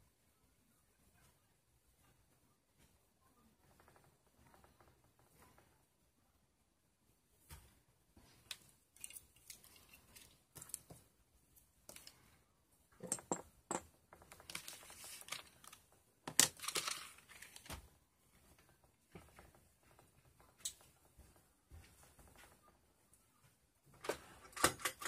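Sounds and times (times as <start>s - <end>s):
rustling and crinkling: 2.0s - 5.8s, 7.4s - 12.4s, 13.0s - 24.6s.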